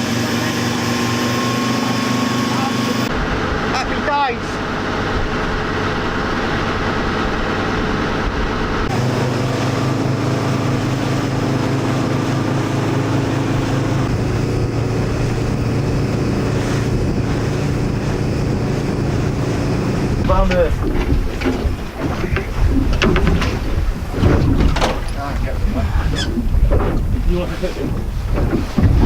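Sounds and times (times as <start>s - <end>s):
boat engine drone: 0.0s - 29.0s
water noise: 0.0s - 29.0s
wind: 0.0s - 29.0s.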